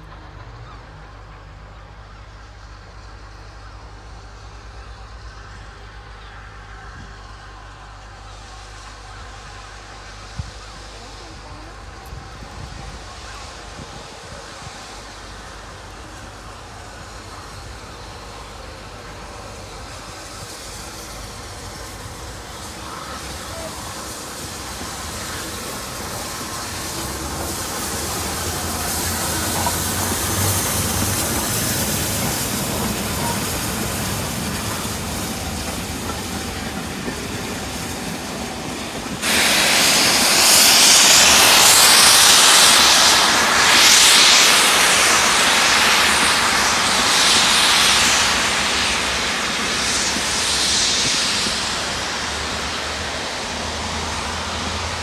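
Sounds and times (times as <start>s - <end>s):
steam hissing: 0.0s - 55.0s
train passing on rails: 0.0s - 55.0s.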